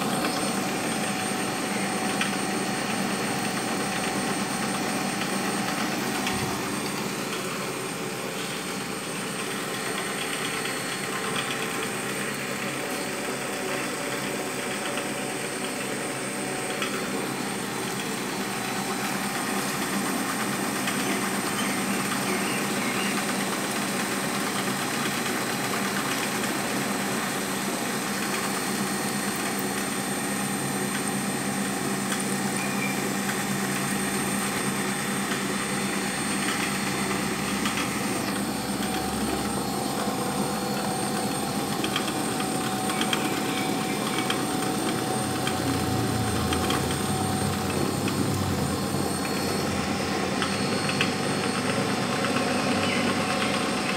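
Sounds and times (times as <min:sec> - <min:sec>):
milling machine cutting metal: 0:00.0 - 0:53.9.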